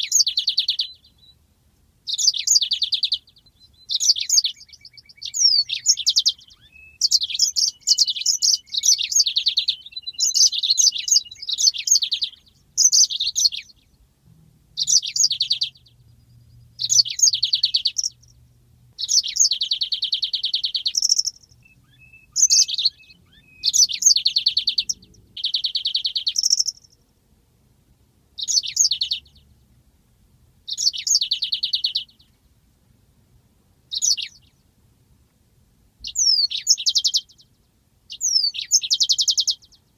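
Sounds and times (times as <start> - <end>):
canary singing trills: 0.0 - 1.4, 2.0 - 27.1, 28.4 - 29.8, 30.6 - 32.4, 33.9 - 34.7, 36.0 - 39.9.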